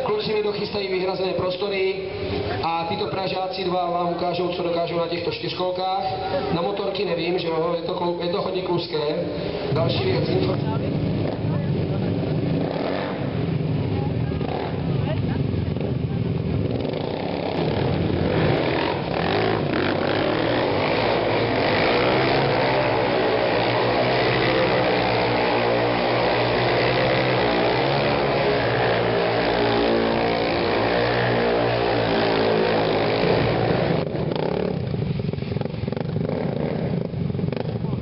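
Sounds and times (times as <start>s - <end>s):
quad bike engines revving: 0.0s - 38.0s.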